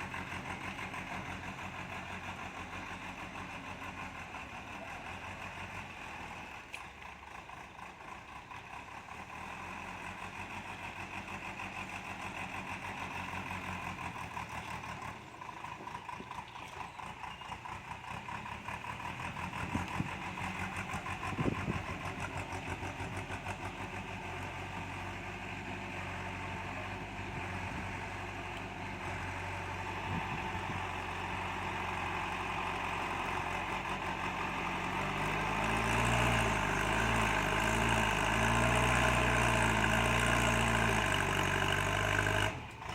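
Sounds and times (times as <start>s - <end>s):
heavy machinery diesel engine: 0.0s - 42.9s.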